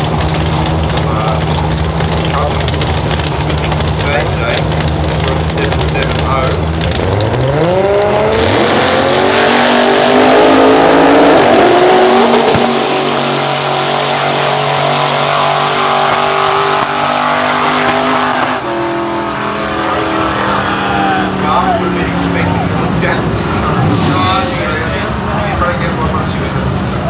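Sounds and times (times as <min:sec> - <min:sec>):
drag car engines at full throttle: 0:00.0 - 0:27.0.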